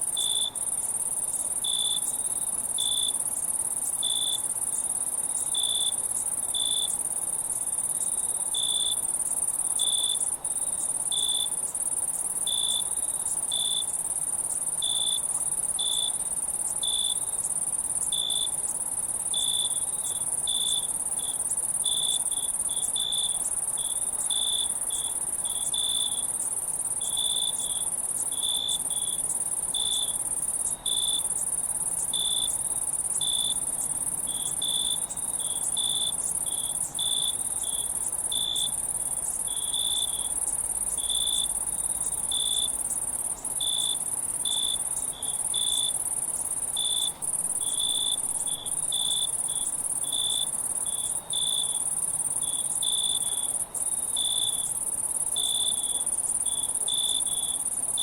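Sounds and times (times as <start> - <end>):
crickets chirping: 0.0 - 58.0
high-pitched insect trill: 0.0 - 58.0.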